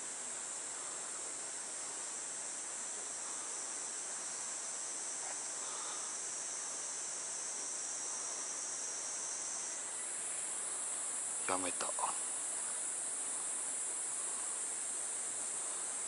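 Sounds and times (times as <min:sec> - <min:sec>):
faint background hiss: 0:00.0 - 0:16.0
shrill insect chorus: 0:00.0 - 0:16.0.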